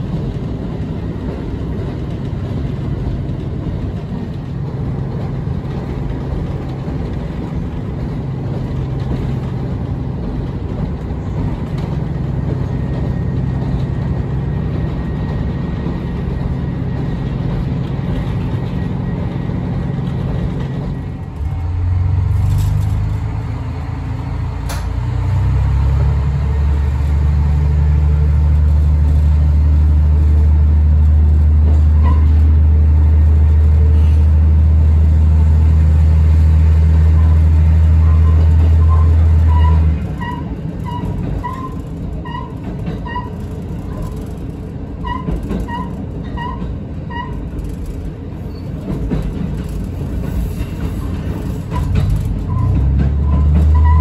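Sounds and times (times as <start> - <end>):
railcar engine drone: 0.0 - 54.0
track rumble: 0.0 - 54.0.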